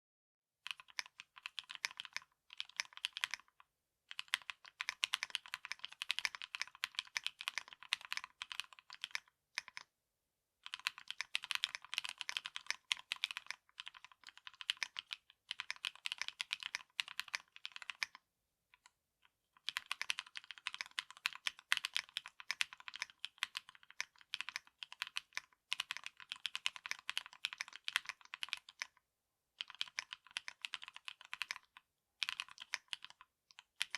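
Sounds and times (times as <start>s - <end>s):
fast typing on mechanical keyboard: 0.6s - 9.8s, 10.6s - 18.2s, 19.6s - 29.0s, 29.6s - 33.9s.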